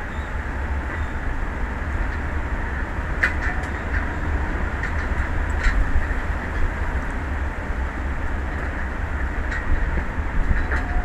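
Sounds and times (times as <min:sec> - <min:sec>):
choppy sea: 0:00.0 - 0:11.0.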